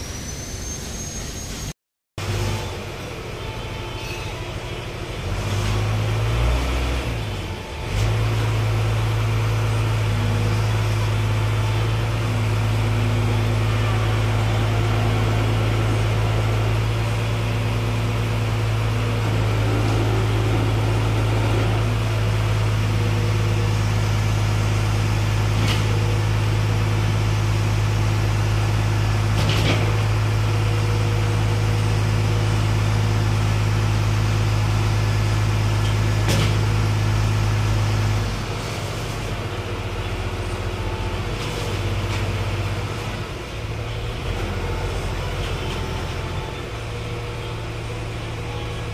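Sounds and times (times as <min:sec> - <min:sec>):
diesel engine at high revs: 0:04.5 - 0:48.9.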